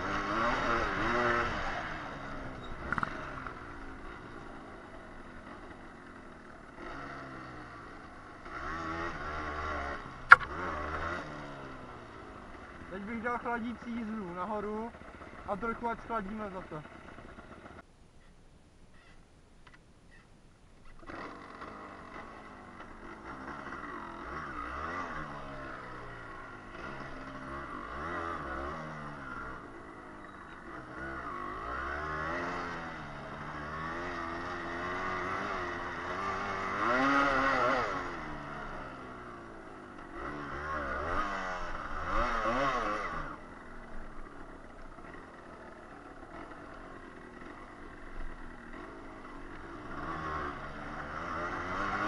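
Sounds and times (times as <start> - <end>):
motorcycle engine revving: 0.0 - 17.8, 20.8 - 52.0.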